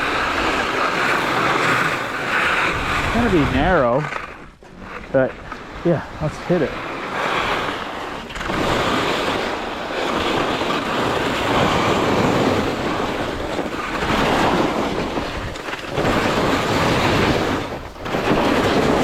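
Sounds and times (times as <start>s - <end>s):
skis carving over snow: 0.0s - 19.0s
wind on microphone: 0.0s - 19.0s.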